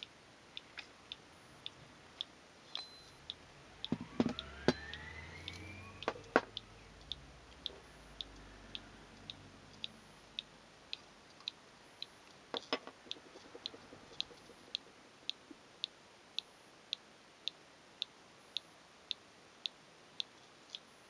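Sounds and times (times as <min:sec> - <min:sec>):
faint high-pitched ticking: 0:00.0 - 0:21.0.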